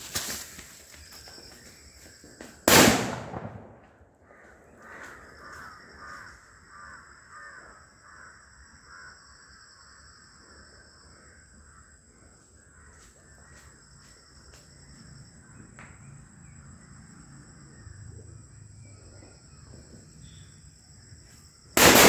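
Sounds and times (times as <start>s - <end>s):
high insect drone: 0.0s - 2.6s, 4.2s - 22.0s.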